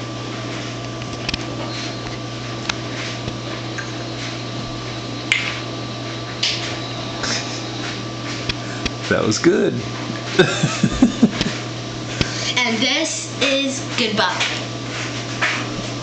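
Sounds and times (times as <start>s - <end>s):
kitchen appliance humming: 0.0s - 16.0s.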